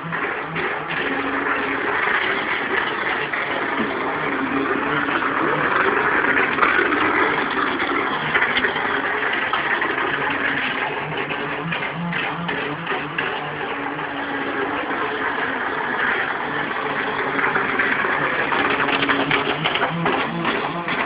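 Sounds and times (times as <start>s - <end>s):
model boat motor running: 0.0s - 21.0s.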